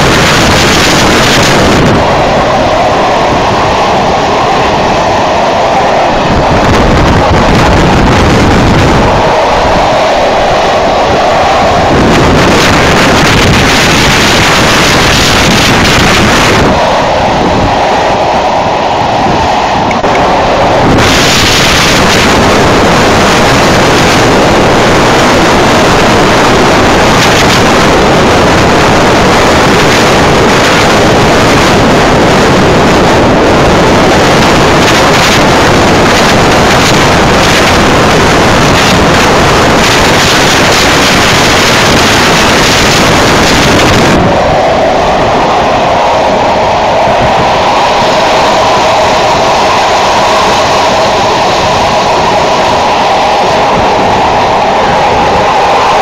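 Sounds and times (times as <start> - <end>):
train running noise: 0.0 - 56.0
wind buffeting microphone: 0.0 - 56.0.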